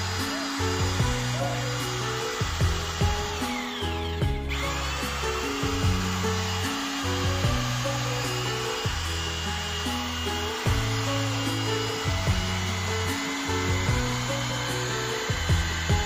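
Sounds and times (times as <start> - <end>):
background music with bassline: 0.0 - 16.0
electric drill mixing adhesive: 0.0 - 16.0.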